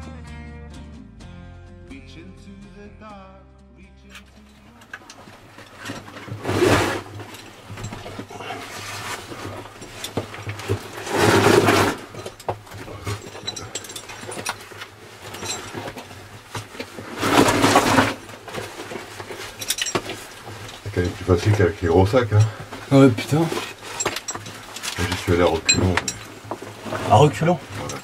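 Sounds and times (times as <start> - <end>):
gear scraping against rock: 4.9 - 28.0
loud rasping noises: 4.9 - 28.0.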